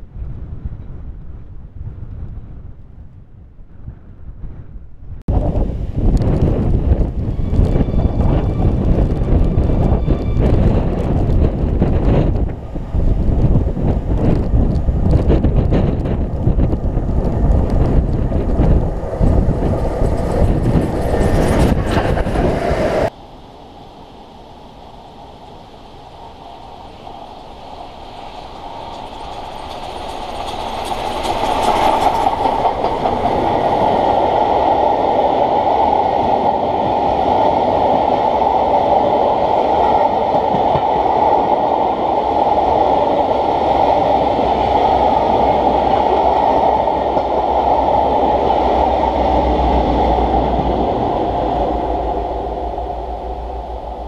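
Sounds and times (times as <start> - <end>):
steam train passing at speed: 5.3 - 54.0
coach wheels rattling on rails: 6.2 - 23.1, 25.9 - 54.0.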